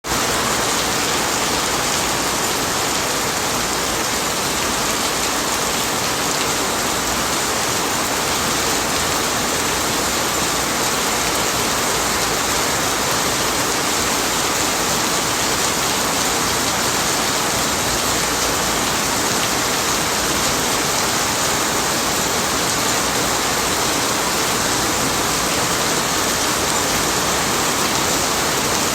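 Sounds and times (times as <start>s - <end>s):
rain falling steadily: 0.0s - 28.9s.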